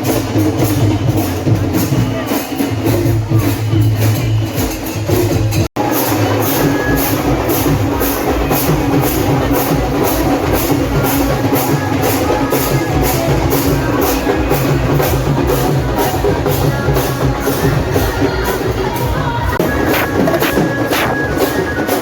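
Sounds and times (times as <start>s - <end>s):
procession drums: 0.0s - 22.0s.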